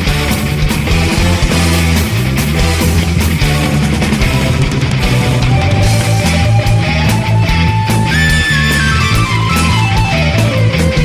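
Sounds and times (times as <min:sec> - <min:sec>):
heavy metal music: 0:00.0 - 0:11.0.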